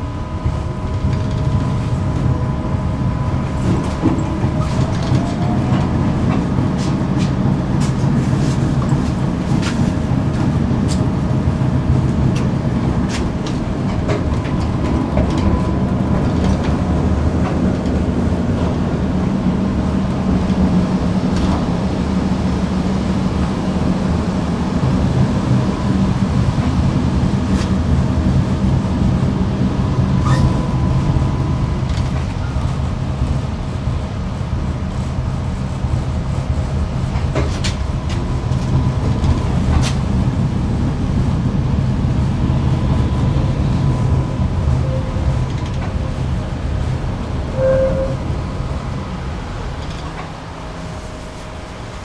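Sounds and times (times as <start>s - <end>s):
tram rumbling along track: 0.0s - 52.0s.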